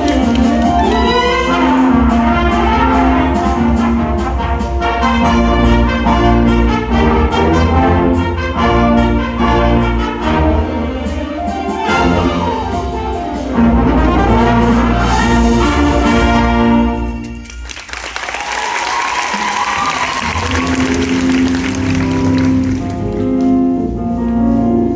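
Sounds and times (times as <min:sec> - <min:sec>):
brass sustained chords: 0:00.0 - 0:17.4, 0:20.1 - 0:24.9
wind ensemble playing loudly: 0:00.0 - 0:17.5, 0:19.2 - 0:24.9.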